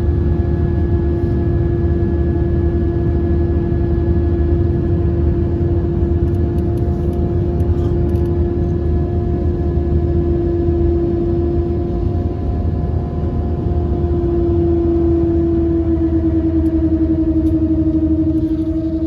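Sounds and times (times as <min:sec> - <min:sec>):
aircraft engine and airflow rumble: 0:00.0 - 0:19.0
constant droning hum: 0:00.0 - 0:19.0.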